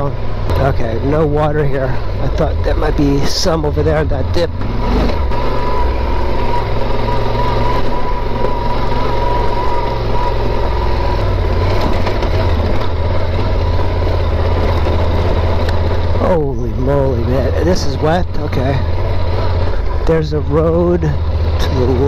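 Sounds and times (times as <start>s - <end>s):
motorcycle engine running at low speed: 0.0s - 22.0s.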